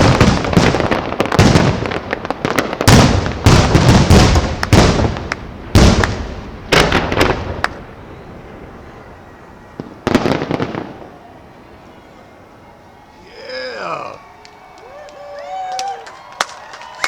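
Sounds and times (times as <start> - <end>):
fireworks bursting: 0.0 - 16.3.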